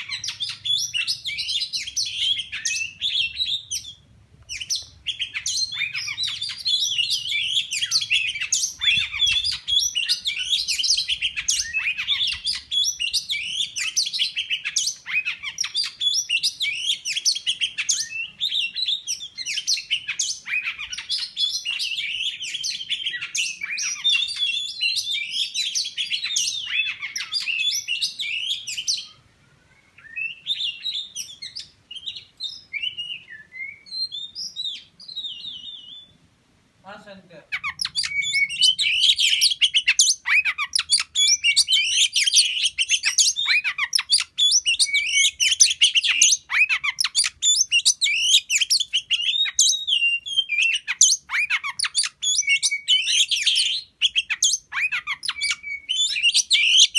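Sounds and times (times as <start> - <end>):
bird singing chirps and whistles: 0.0 - 29.2, 30.0 - 36.2, 37.6 - 56.9.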